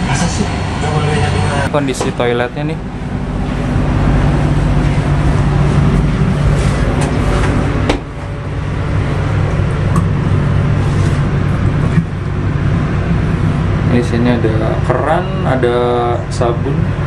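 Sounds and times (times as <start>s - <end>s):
train machinery hum: 0.0s - 17.0s.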